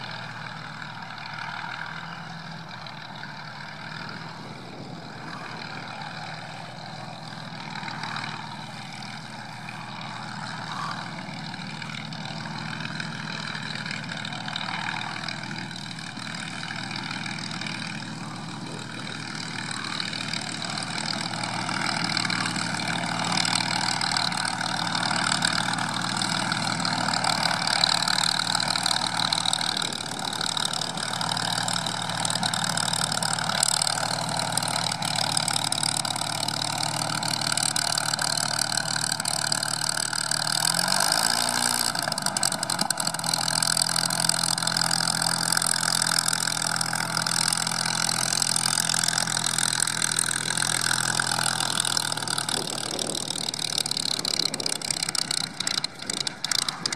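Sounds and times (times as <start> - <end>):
propeller aircraft engine taxiing: 0.0 - 56.9.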